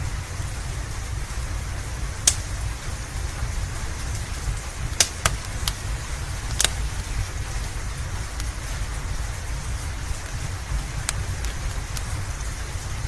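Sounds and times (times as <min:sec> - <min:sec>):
steady rain: 0:00.0 - 0:13.0
wood fire crackling and popping: 0:00.0 - 0:13.0.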